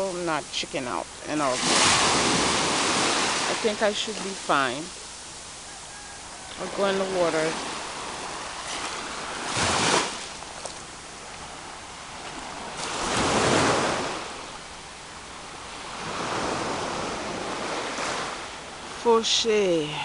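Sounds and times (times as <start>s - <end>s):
sea waves breaking: 0.0s - 5.5s, 6.5s - 20.0s.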